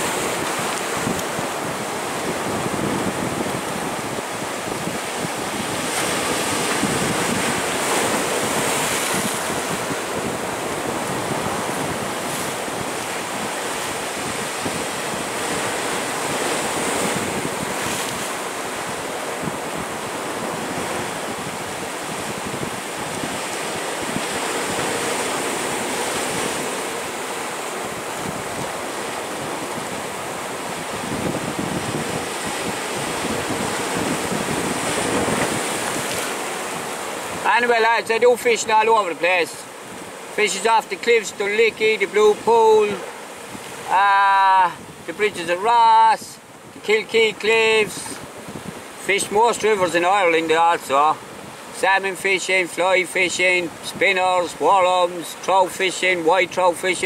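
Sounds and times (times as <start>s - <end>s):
wind noise on microphone: 0.0s - 37.5s, 41.8s - 50.0s
surf breaking over rocks: 0.0s - 57.0s.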